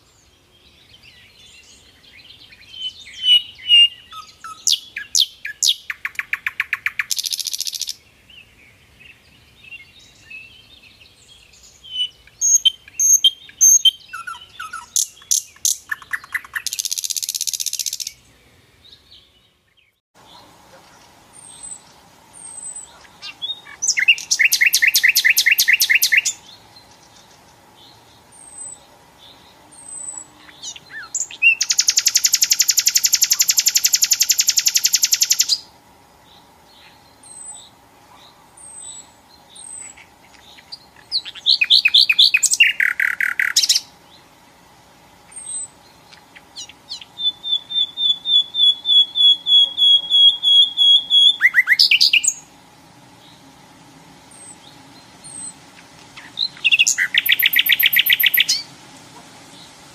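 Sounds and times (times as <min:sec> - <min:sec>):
nightingale singing: 0:00.0 - 0:44.4, 0:45.1 - 0:59.9.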